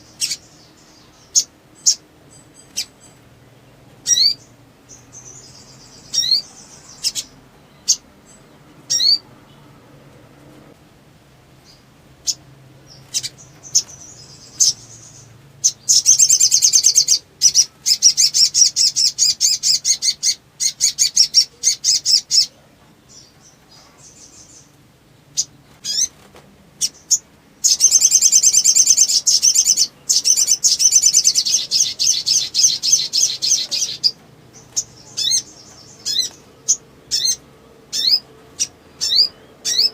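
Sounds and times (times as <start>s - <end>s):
rapid high trilling birdsong: 0.0s - 10.8s, 11.4s - 39.9s.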